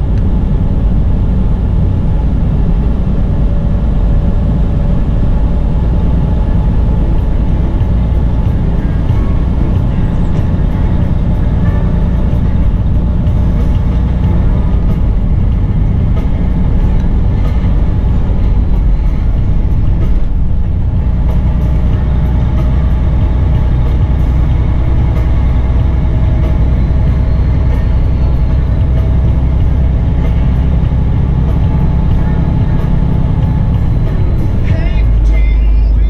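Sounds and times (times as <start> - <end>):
truck engine and tyre drone: 0.0 - 36.0.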